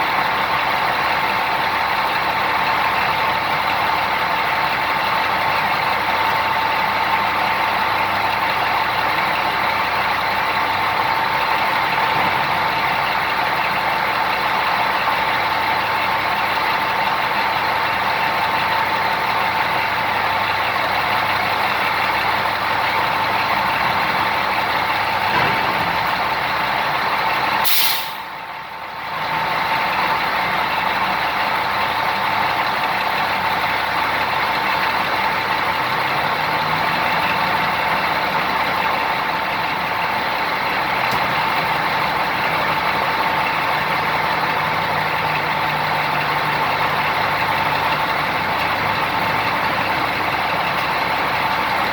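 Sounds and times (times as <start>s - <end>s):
haul truck engine running: 0.0s - 51.9s.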